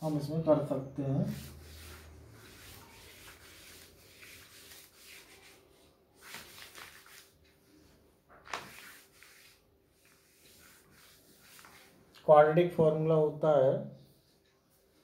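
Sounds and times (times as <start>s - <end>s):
cloth wiping chalkboard: 0.0s - 12.8s, 14.0s - 15.0s.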